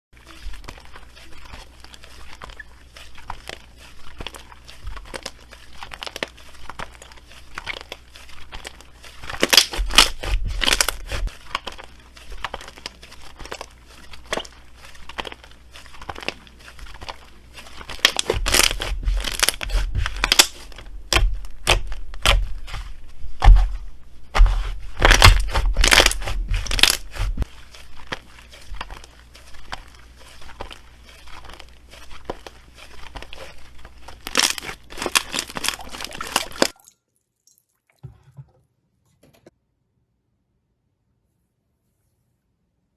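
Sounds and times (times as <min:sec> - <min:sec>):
slime crackling and popping: 0:00.2 - 0:36.9.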